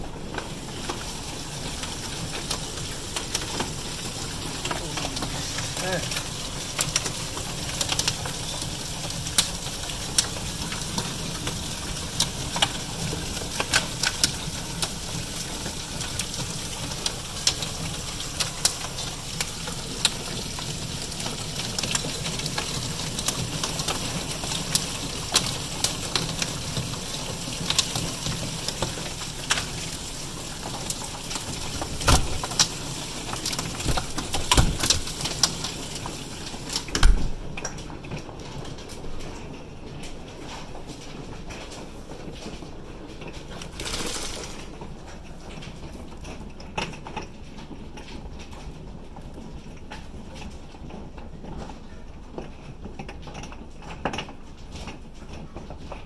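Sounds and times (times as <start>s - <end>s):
hail and rain hissing: 0.0s - 55.7s
hailstones clicking: 0.0s - 56.0s.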